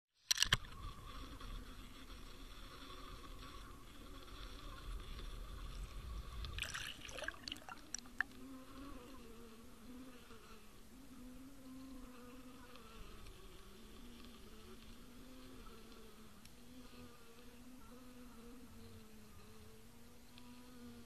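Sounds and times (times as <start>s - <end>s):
low buzzing hum underwater: 0.3s - 21.0s.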